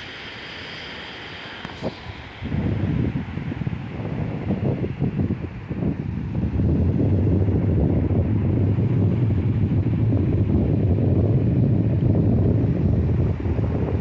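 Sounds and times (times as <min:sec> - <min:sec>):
sea waves washing: 0:00.0 - 0:14.0
wind on microphone: 0:01.7 - 0:14.0.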